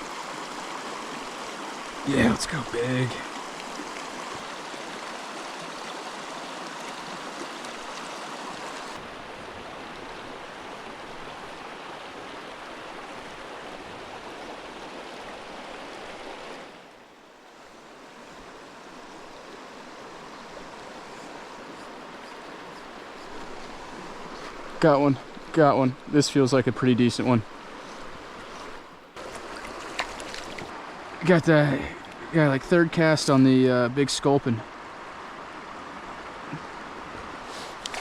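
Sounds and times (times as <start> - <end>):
creek water rushing over rocks: 0.0 - 38.0.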